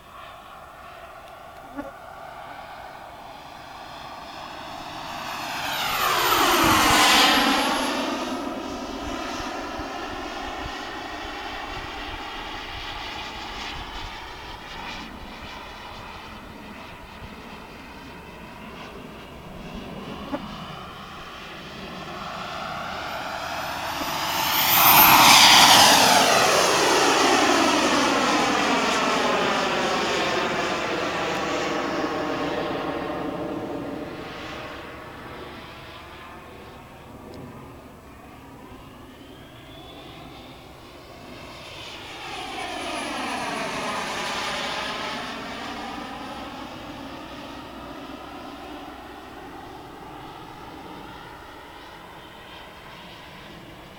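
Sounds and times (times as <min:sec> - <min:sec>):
model jet turbine flying past: 0:00.0 - 0:53.9.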